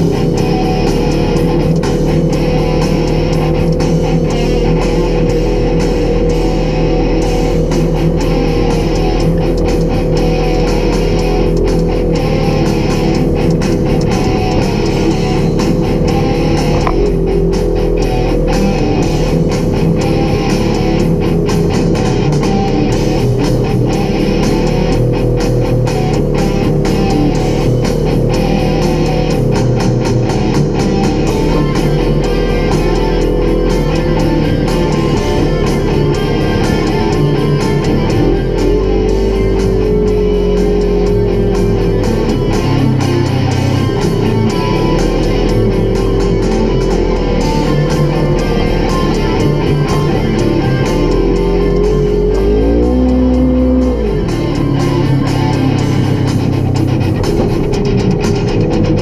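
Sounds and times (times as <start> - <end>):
rock music with electric guitar: 0.0 - 59.0.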